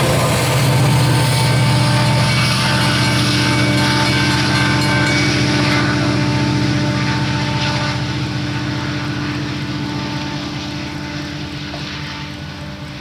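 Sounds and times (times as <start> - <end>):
diesel locomotive engines droning: 0.0 - 13.0
thin whine: 0.0 - 13.0.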